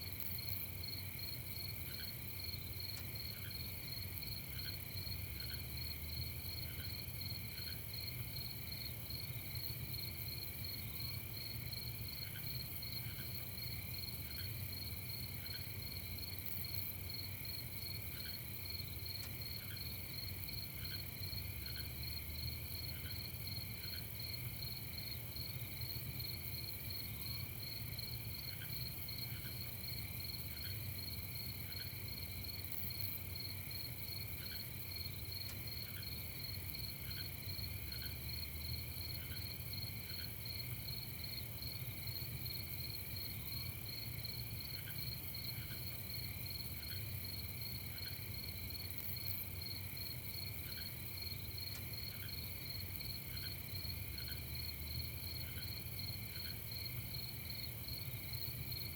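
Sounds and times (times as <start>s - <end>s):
crickets trilling: 0.4s - 58.9s.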